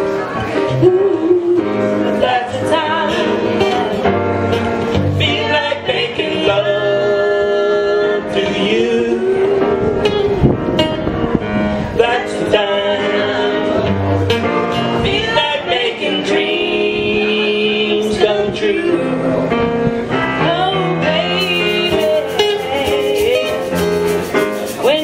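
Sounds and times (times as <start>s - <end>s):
acoustic guitar: 0.0s - 25.0s
woman singing into a microphone: 0.1s - 4.1s, 5.0s - 11.2s, 11.8s - 14.2s, 14.8s - 19.5s, 20.2s - 25.0s.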